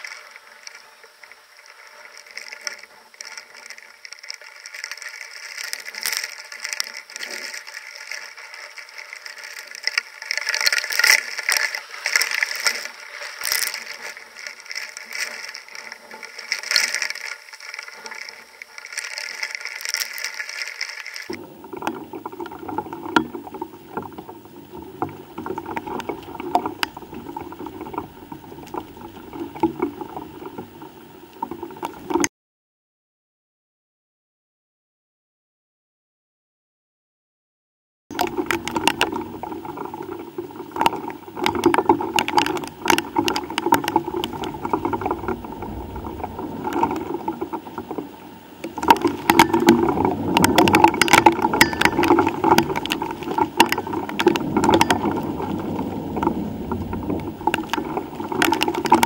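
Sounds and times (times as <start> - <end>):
storm rain pattering and splashing: 0.0 - 32.3, 38.1 - 59.0.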